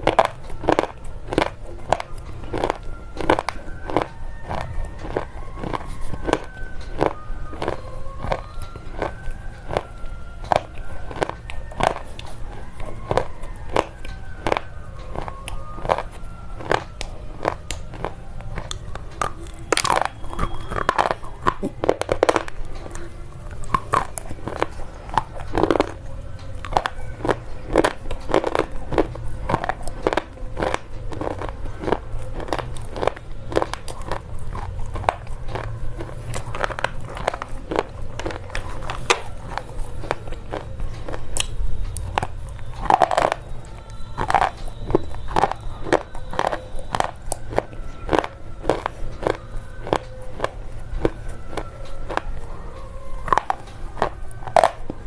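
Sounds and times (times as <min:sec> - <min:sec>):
slate pencils being chewed: 0:00.0 - 0:55.0.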